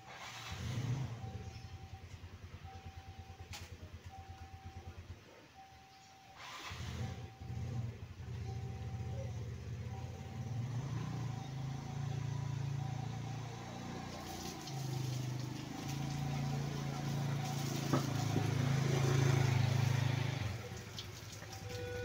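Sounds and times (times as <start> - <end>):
motorcycle passing: 0.0 - 3.7, 6.4 - 22.0.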